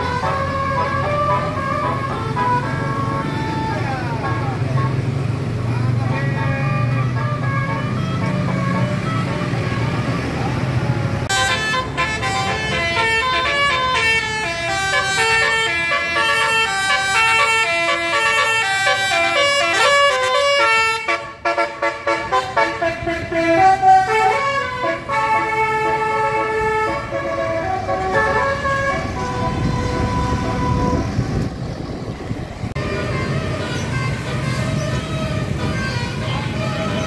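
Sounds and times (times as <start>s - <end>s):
multi-tone bus air horn tune: 0.0s - 5.2s, 6.4s - 10.3s, 11.3s - 31.8s, 32.8s - 37.0s.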